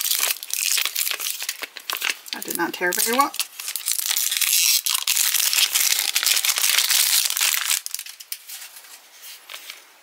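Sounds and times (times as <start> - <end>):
cardboard packaging crackling: 0.0 - 9.8.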